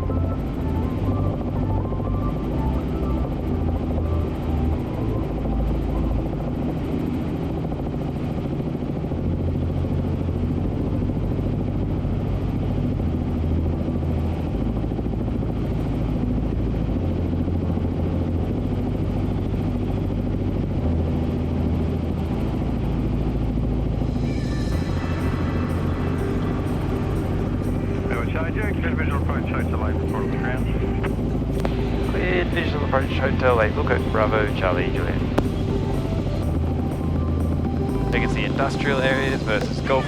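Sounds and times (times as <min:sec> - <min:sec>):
helicopter rotor drone: 0:00.0 - 0:40.0.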